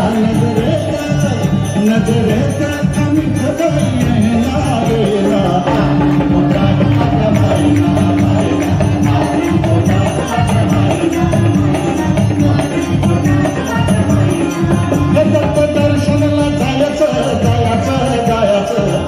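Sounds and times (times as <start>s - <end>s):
drums: 0.0s - 19.0s
jingling hand percussion: 0.0s - 19.0s.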